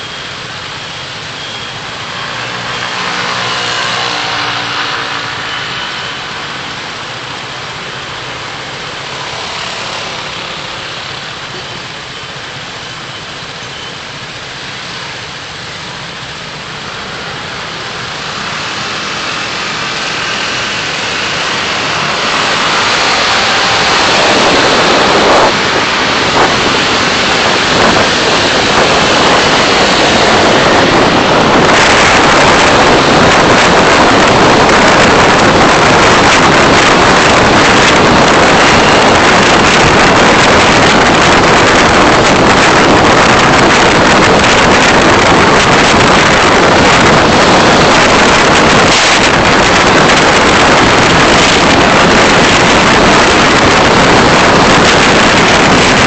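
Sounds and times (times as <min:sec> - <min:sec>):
car wind and road noise: 0:00.0 - 0:56.0.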